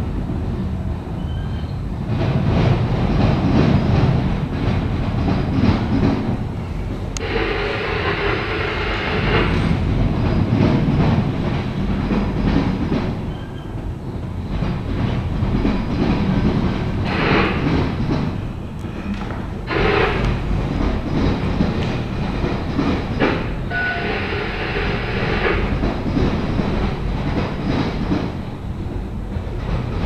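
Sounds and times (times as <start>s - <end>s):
clickety-clack over rail joints: 0.0s - 30.0s
freight train wheels rumbling: 0.0s - 30.0s
train cars rattling: 0.0s - 30.0s.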